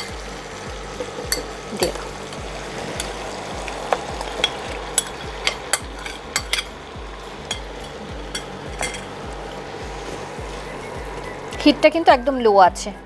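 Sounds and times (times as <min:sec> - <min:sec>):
utensil scraping a pan: 0:00.0 - 0:11.8
soft sizzle: 0:00.0 - 0:13.0.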